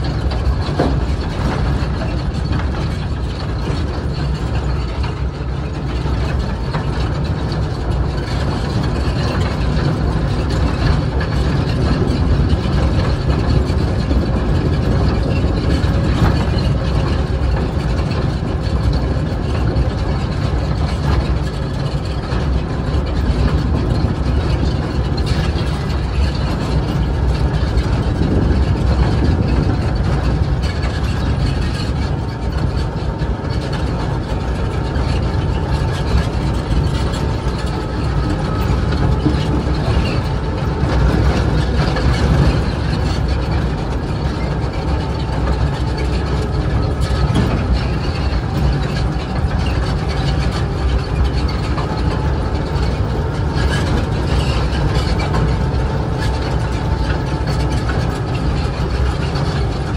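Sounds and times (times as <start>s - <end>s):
diesel locomotive running: 0.0s - 59.9s
wheels clicking and rattling: 0.0s - 59.9s.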